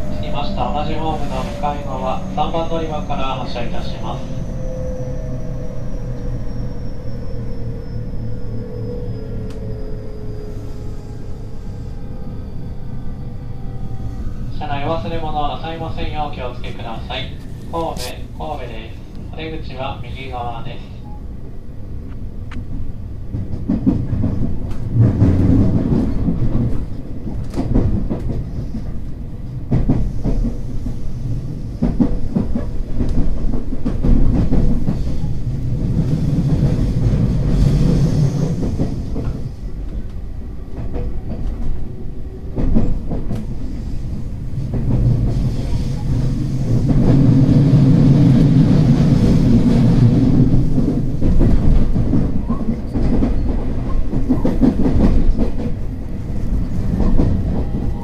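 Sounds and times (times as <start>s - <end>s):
rail joint clicks: 0.0s - 19.8s, 21.9s - 58.0s
train wheels rumbling on rail: 0.0s - 58.0s.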